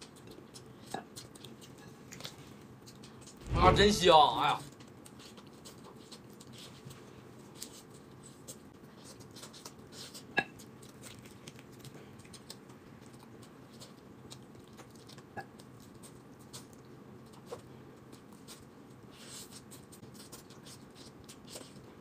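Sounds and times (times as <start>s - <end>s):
person chewing: 0.0s - 3.4s, 4.8s - 21.9s.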